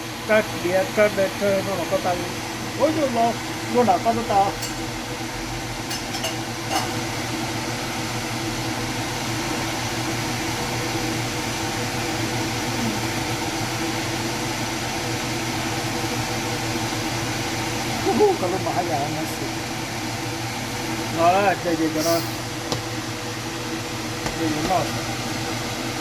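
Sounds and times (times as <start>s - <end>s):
mechanical hum with hiss: 0.0s - 26.0s.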